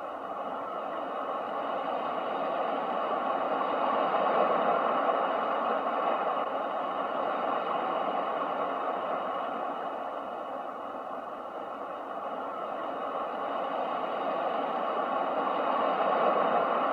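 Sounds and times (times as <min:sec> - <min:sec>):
ocean surf rushing: 0:00.0 - 0:16.9.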